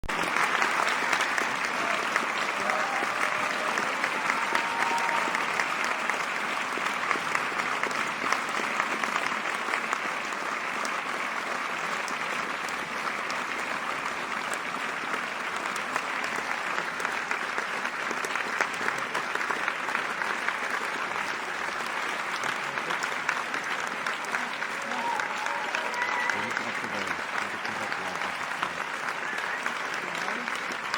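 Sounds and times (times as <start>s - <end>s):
audience applauding: 0.0s - 30.9s.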